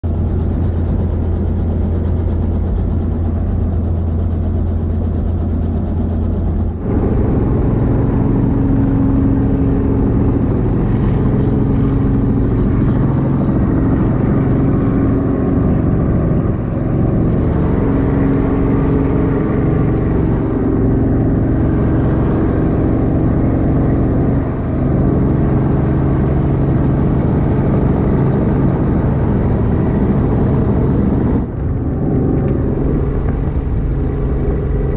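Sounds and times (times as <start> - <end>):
helicopter engine and rotor drone: 0.0 - 34.9.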